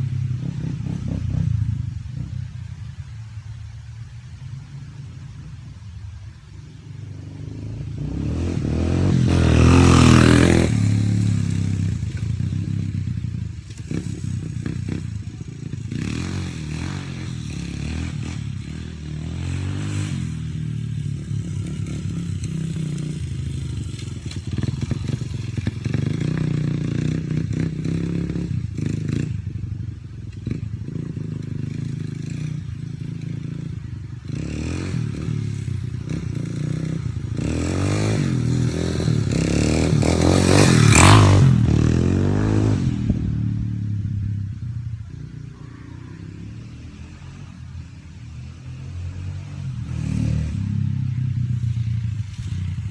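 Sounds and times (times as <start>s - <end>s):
dirt bike engine revving: 7.0s - 52.9s.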